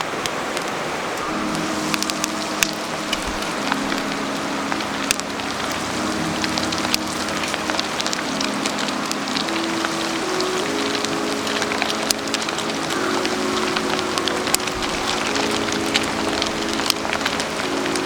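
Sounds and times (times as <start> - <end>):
fire crackling and popping: 0.0 - 18.0
food sizzling over campfire: 0.0 - 18.0.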